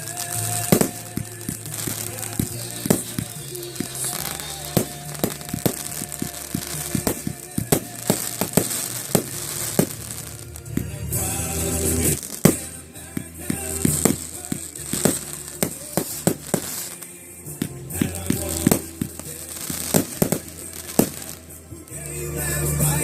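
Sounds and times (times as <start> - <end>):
fireworks crackling and popping: 0.0 - 23.0
music with low bass line: 0.0 - 23.0.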